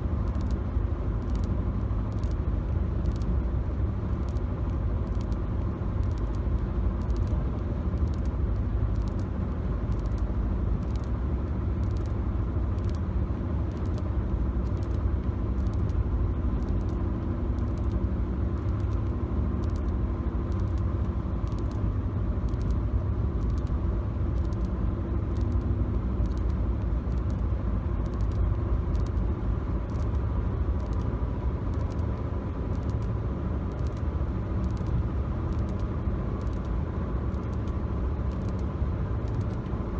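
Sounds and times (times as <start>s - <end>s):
car cabin road and engine rumble: 0.0s - 39.9s
faint sharp clicks: 0.2s - 0.6s, 1.2s - 2.4s, 3.0s - 3.4s, 4.2s - 9.3s, 9.9s - 11.2s, 11.8s - 13.1s, 13.7s - 15.0s, 15.6s - 16.0s, 16.6s - 22.8s, 23.4s - 27.4s, 28.0s - 30.2s, 30.8s - 31.1s, 31.7s - 39.8s.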